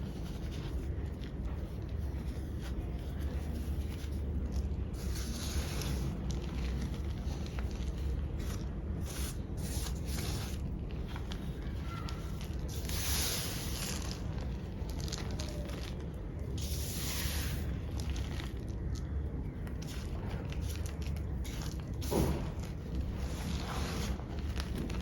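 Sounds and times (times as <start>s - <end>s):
chalk pebbles crushed by hand: 0.0s - 25.0s.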